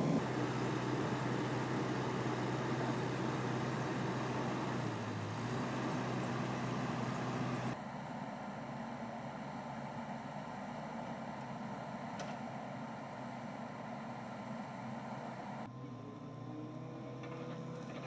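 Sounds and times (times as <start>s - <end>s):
diesel engine idling: 0.0s - 15.6s.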